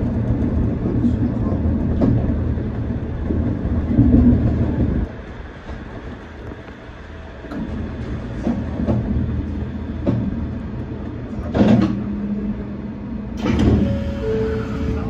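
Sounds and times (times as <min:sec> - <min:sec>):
monorail low running rumble: 0:00.0 - 0:15.0.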